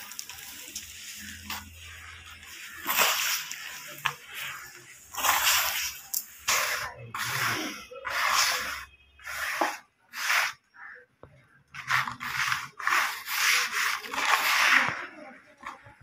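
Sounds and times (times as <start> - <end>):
hands raking dry brick dust: 0.0 - 11.0, 11.7 - 15.9.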